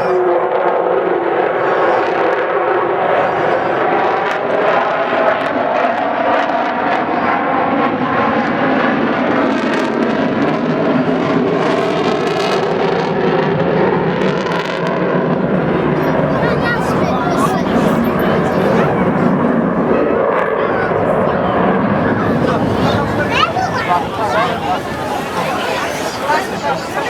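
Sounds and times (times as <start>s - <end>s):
loud jet engine noise: 0.0s - 27.0s.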